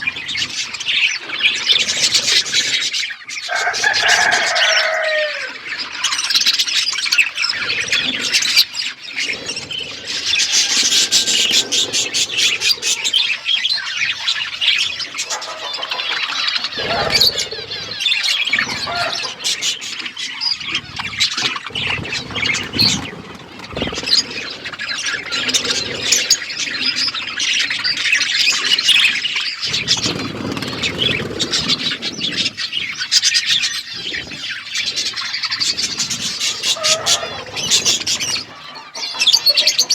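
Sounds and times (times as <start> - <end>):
bird squawks: 0.0 - 39.9
birds chirping and chattering: 0.0 - 39.9.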